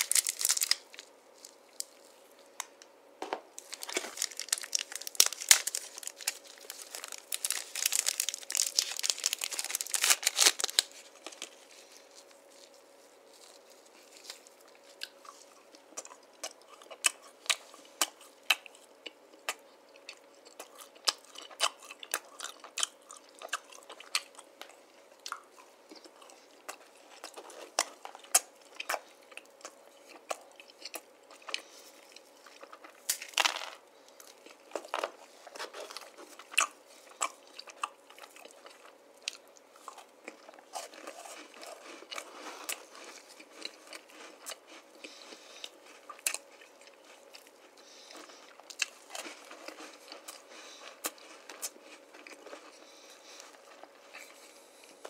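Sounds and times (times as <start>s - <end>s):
crunchy chewing and biting: 0.0s - 2.8s, 3.6s - 55.0s.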